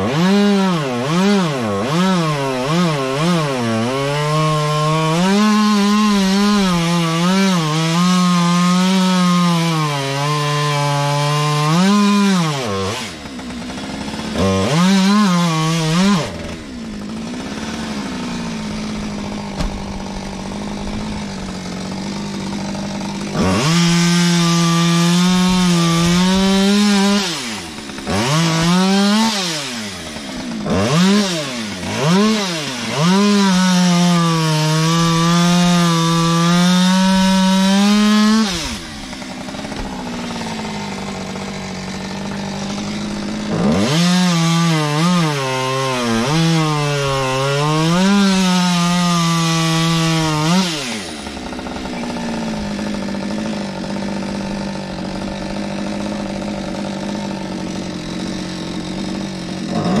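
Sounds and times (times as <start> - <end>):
chainsaw cutting and idling: 0.0 - 60.0.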